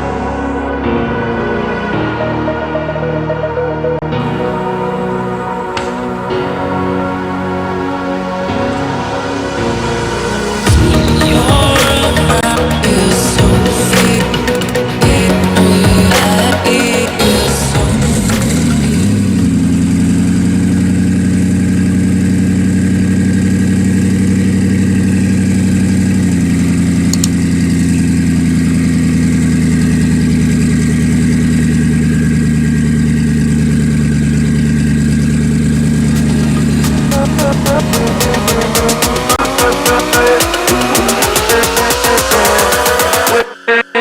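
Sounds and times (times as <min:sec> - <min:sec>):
car engine idling: 0:02.2 - 0:43.4.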